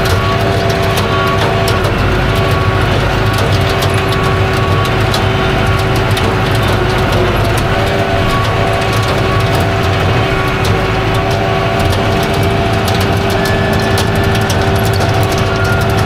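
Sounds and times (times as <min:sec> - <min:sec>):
clicks and rattles: 0:00.0 - 0:16.0
engine hum: 0:00.0 - 0:16.0.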